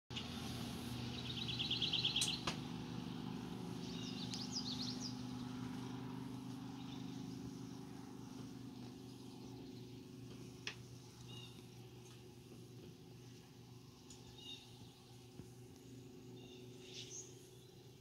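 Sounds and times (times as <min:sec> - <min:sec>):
steady low hum: 0:00.1 - 0:18.0
birds singing: 0:00.2 - 0:18.0.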